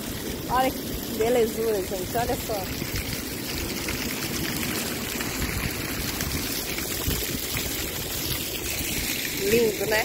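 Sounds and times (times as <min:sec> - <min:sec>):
small waterfall splashing onto rocks: 0:00.0 - 0:10.0.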